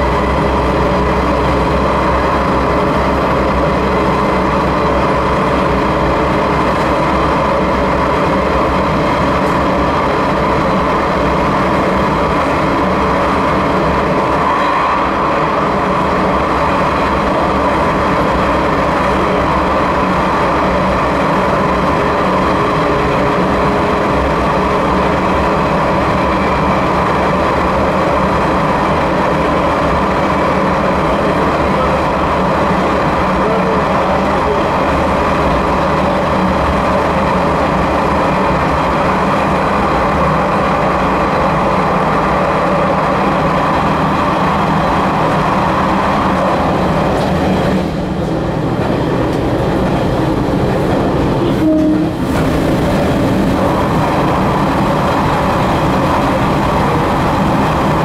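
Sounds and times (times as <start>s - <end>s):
train running through tunnel: 0.0s - 58.0s.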